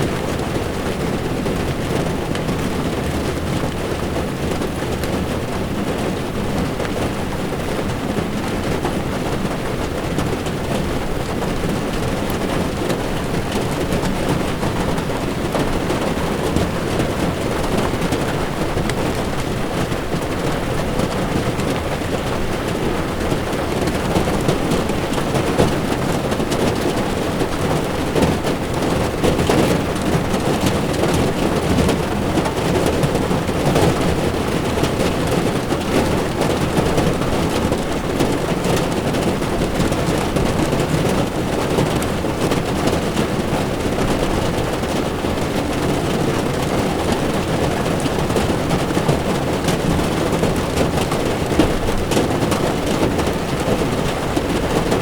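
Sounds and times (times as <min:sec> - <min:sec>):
heavy rain drumming on car: 0:00.0 - 0:55.0.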